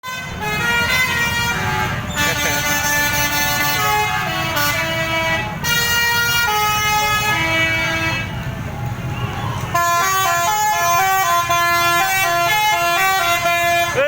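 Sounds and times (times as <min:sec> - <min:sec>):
multi-tone bus horn tune: 0:00.0 - 0:08.6, 0:09.3 - 0:14.0
bus engine rumble: 0:00.1 - 0:14.0.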